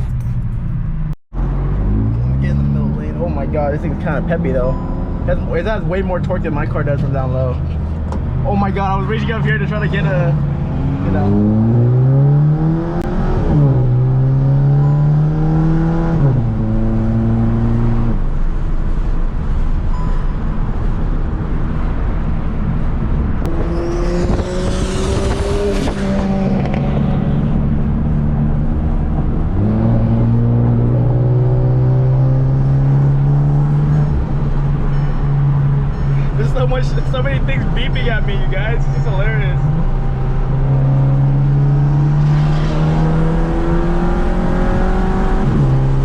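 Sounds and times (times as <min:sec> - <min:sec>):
car engine accelerating: 0:01.0 - 0:19.1, 0:22.8 - 0:46.0.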